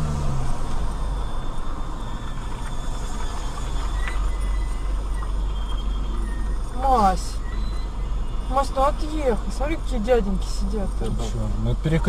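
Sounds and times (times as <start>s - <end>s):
vehicle and road noise: 0.0s - 12.0s.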